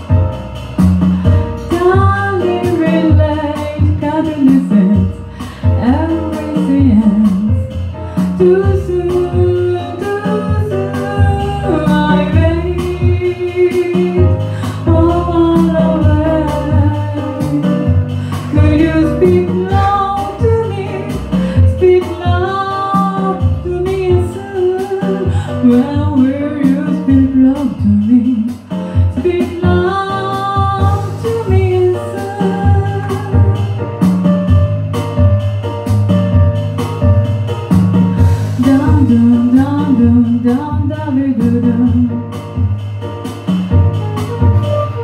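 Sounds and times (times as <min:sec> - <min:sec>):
bass line: 0:00.0 - 0:45.0
woman singing into microphone: 0:01.3 - 0:34.6, 0:38.5 - 0:42.7.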